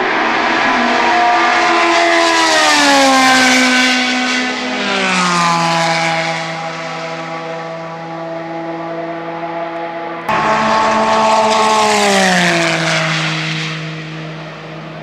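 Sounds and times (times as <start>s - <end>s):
race car driving past: 0.0s - 15.0s.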